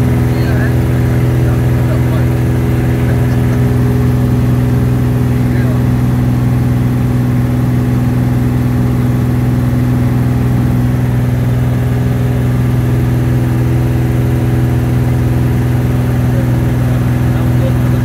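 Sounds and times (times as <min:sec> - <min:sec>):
propeller aircraft engine drone: 0:00.0 - 0:18.0.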